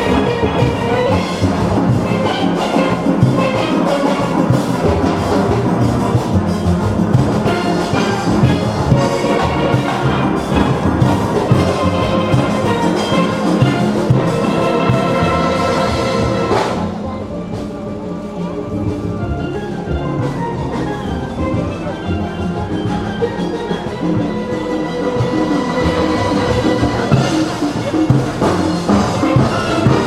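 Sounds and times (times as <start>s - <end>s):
drum and percussion beat: 0.0s - 30.0s
steelpans playing: 0.0s - 30.0s.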